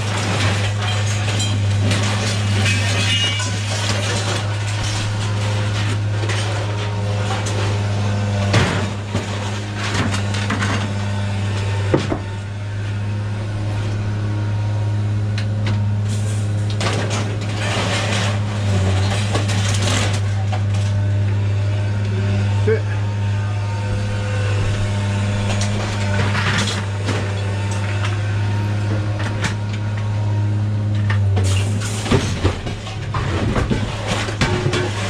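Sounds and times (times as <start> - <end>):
engine humming: 4.2 - 35.0.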